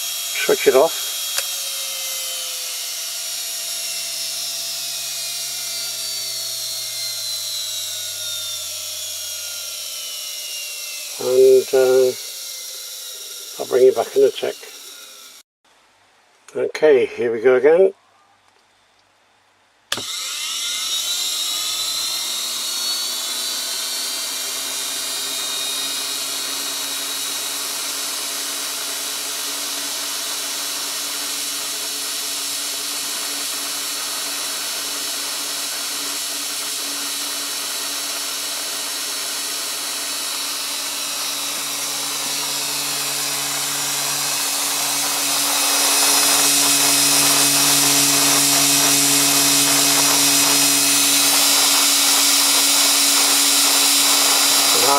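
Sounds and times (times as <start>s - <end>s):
washing machine motor whine: 0.0s - 15.4s, 19.9s - 54.9s.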